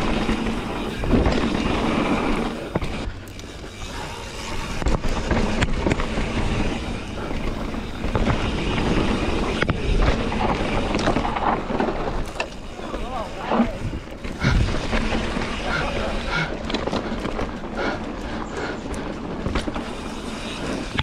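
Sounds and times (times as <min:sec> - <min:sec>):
bike clattering over bumps: 0:00.0 - 0:21.0
tyre and wind rumble: 0:00.0 - 0:21.0.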